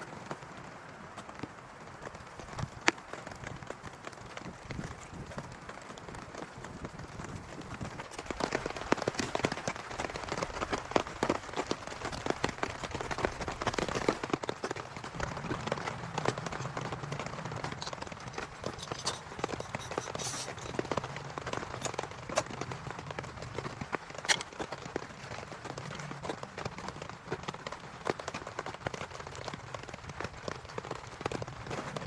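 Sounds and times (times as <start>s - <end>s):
heavy rain tapping: 0.0s - 32.0s.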